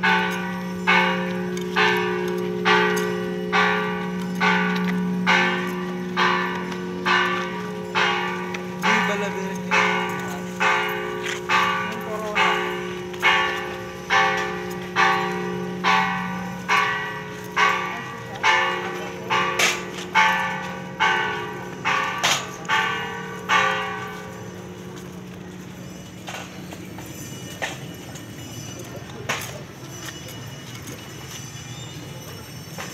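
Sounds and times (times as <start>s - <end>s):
church bells ringing: 0.0s - 32.9s.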